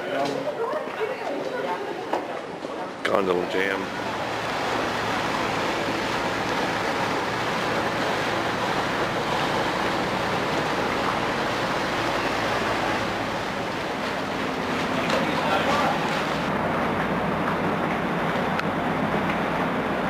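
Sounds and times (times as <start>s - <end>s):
boat engine hum: 1.8s - 20.0s
rushing water: 3.1s - 20.0s.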